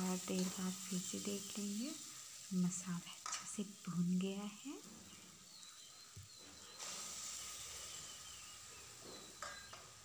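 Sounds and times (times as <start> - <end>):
hot oil sizzling and hissing: 0.0 - 10.0.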